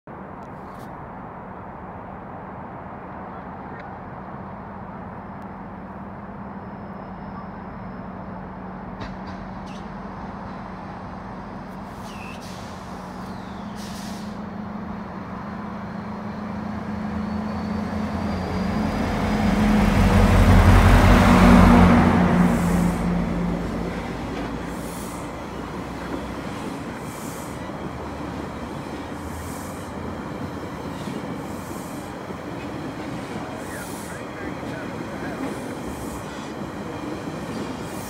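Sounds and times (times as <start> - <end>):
diesel locomotive engine drone: 0.1 - 38.0.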